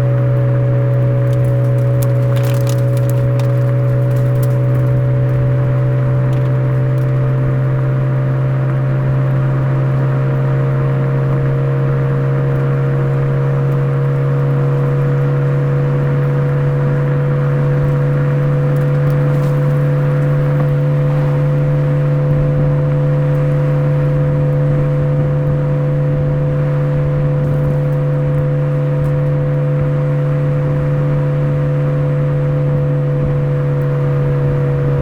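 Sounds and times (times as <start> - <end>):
car exhaust droning: 0.0 - 35.0.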